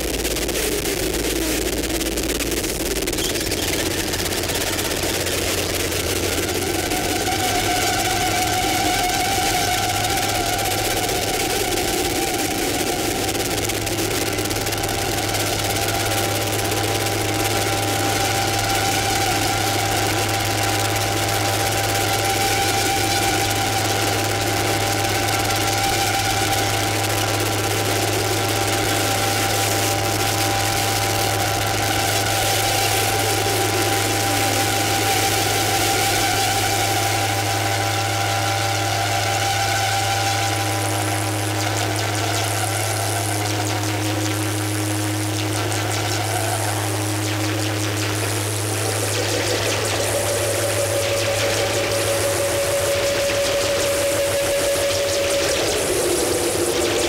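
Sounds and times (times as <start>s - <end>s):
low electronic drone: 0.0s - 57.0s
slow falling tone: 0.0s - 57.0s.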